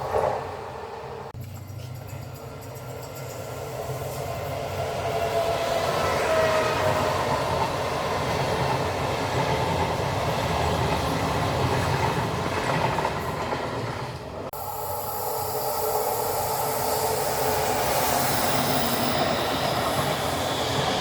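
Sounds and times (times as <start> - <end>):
train rumbling past on rails: 0.0 - 21.0.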